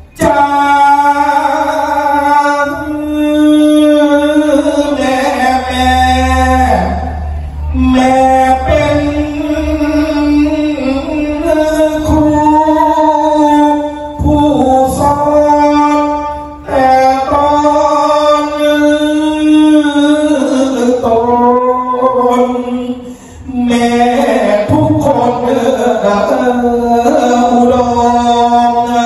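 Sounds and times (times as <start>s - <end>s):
person singing a slow chant: 0.0s - 29.0s.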